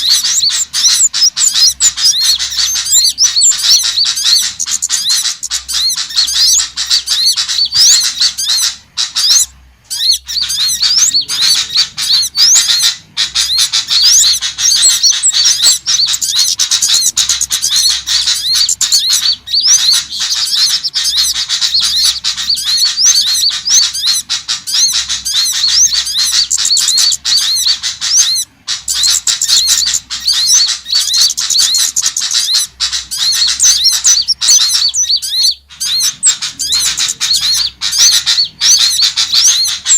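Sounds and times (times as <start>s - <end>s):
small songbirds chattering: 0.0s - 39.9s.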